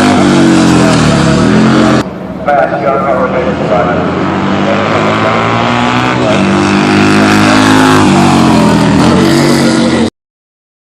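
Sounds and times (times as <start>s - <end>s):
racing motorcycle engines revving: 0.0s - 10.1s.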